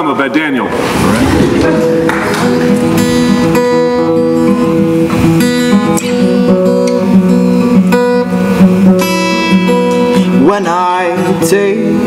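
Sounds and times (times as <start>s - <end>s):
guitar strumming chords: 0.8s - 12.0s.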